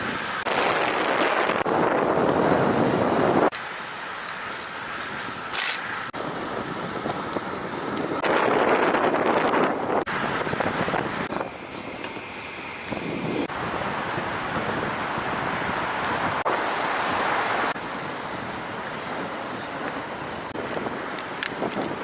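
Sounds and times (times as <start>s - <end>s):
wind rushing over microphone: 0.0s - 3.6s, 6.1s - 22.0s.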